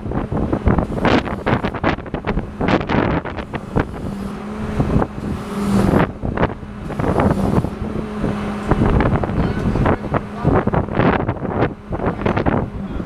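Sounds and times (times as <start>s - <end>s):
drilling rig machinery hum: 0.0s - 13.0s
wind buffeting microphone: 0.0s - 13.0s.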